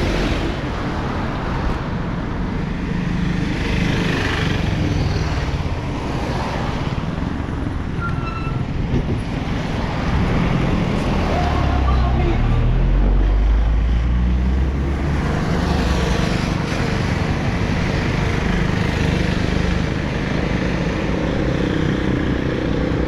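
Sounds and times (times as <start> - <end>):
road noise: 0.0 - 23.0
vehicle engines running: 0.0 - 23.0.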